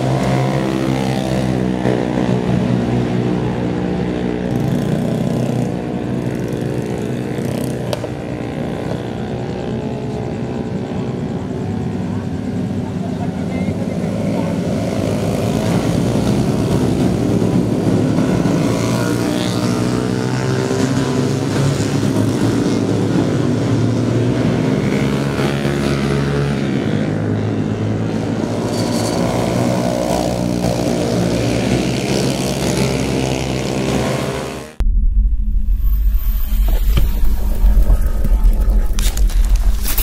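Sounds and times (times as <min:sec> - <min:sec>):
motorcycle engines revving: 0:00.0 - 0:34.8.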